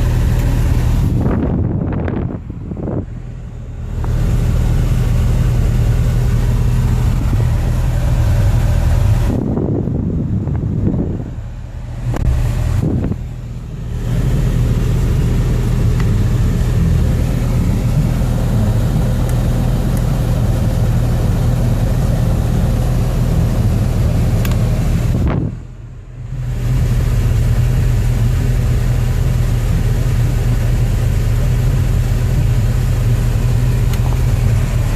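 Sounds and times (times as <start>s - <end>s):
car engine droning: 0.0s - 34.9s.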